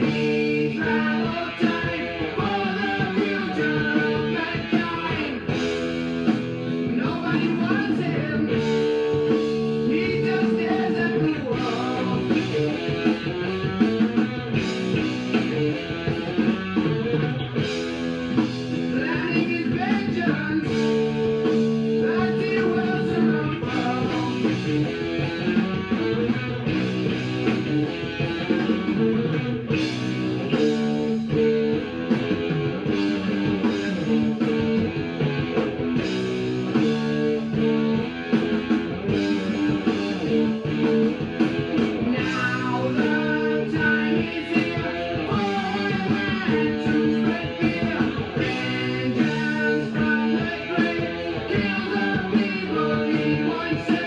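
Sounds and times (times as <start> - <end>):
guitar-led rock music: 0.0 - 54.0.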